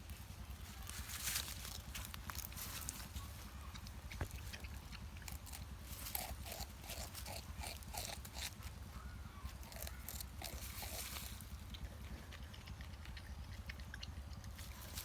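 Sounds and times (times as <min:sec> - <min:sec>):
porcupine gnawing bamboo: 0:00.0 - 0:15.0.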